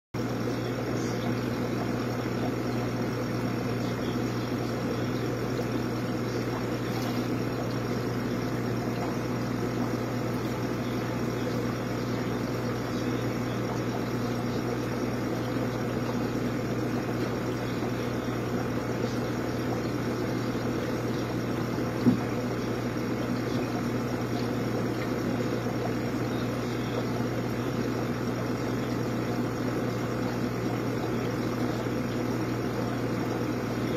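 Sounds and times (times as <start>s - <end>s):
aquarium equipment humming: 0.2s - 33.9s.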